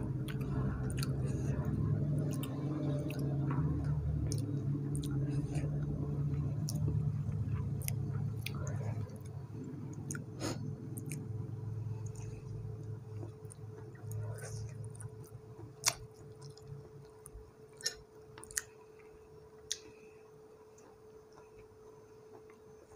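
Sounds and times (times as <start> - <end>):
person chewing: 0.0 - 20.0
steady low hum: 0.0 - 22.9.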